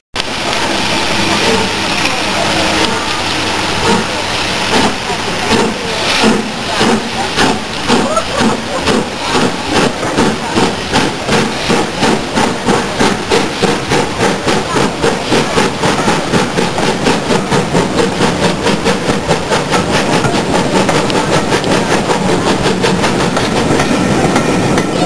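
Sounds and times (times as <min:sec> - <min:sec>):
steam locomotive chuffing: 0:00.2 - 0:25.0.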